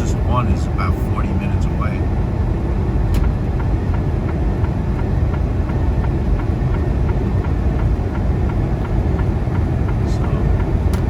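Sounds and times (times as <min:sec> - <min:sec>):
diesel engine drone: 0:00.0 - 0:11.0
road noise: 0:00.0 - 0:11.0.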